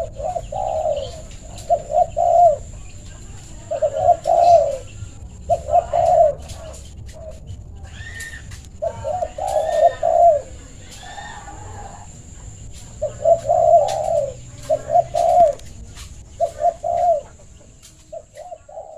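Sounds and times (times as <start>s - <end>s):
dove cooing: 0.0s - 18.9s.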